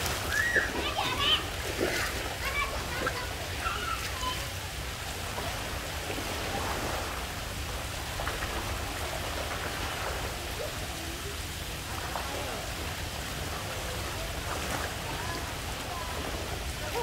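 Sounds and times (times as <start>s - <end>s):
faint children's voices: 0.0s - 17.0s
rushing and splashing pool water: 0.0s - 17.0s.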